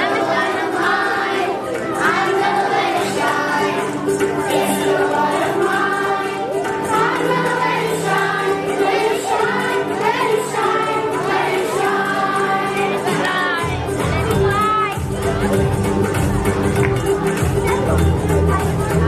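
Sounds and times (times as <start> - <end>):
children's choir singing: 0.0 - 19.0
musical accompaniment: 0.0 - 19.0.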